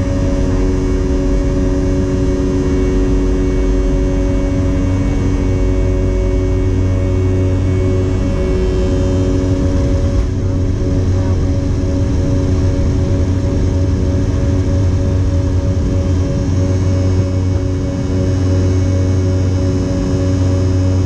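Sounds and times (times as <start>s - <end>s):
jet engines droning in cabin: 0.0s - 21.0s.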